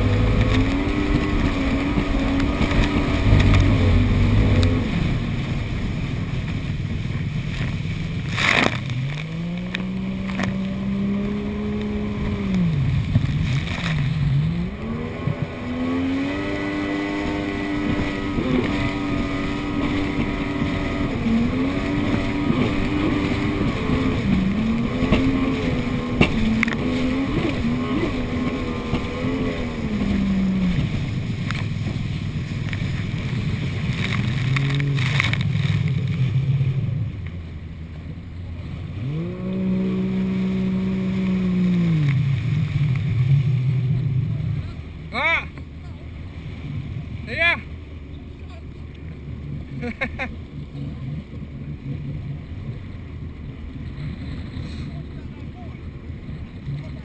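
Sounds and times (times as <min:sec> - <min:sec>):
jet ski engine revving: 0:00.0 - 0:57.0
wind and water spray rushing: 0:00.0 - 0:57.0.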